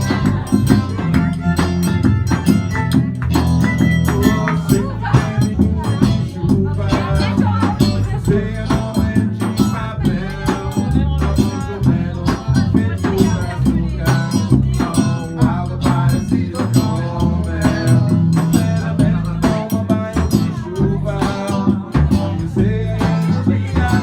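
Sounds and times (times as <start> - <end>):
bass line: 0.0 - 24.0
live band playing: 0.0 - 24.0
shaken percussion: 0.0 - 24.0.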